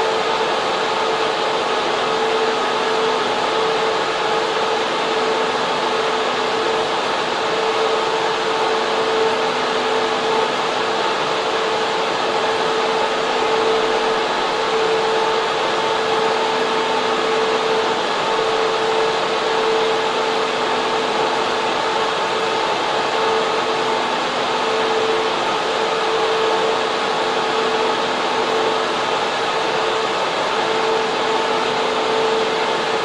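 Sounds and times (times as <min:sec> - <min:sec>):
cooling fans rushing hiss: 0:00.0 - 0:33.0.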